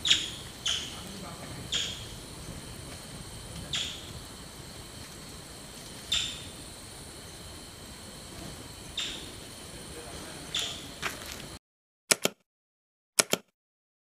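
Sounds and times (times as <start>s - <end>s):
high insect drone: 0.0s - 11.6s.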